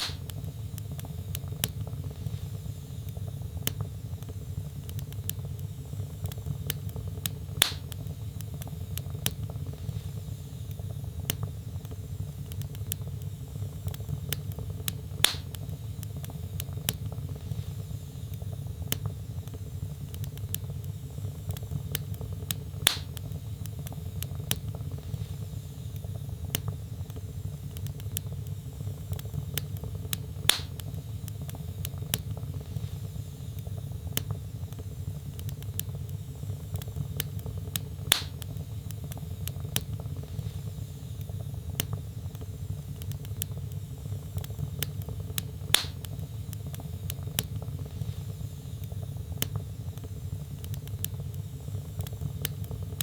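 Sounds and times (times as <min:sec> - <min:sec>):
loud fire pops: 0:00.0 - 0:53.0
wood fire crackling: 0:00.0 - 0:53.0.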